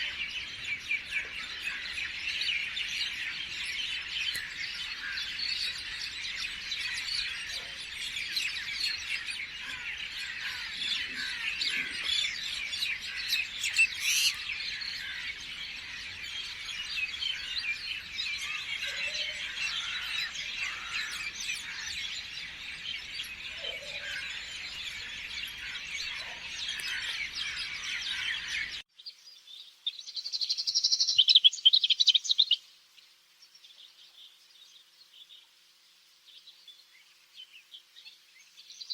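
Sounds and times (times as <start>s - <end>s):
small birds chirping chorus: 0.0s - 38.9s.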